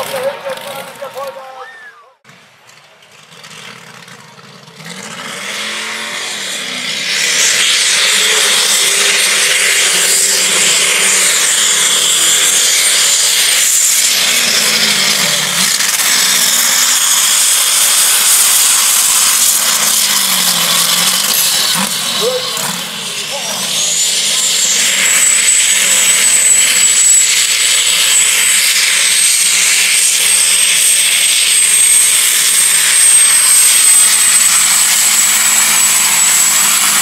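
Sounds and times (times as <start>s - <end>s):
tractor engine at full throttle: 0.0s - 37.0s.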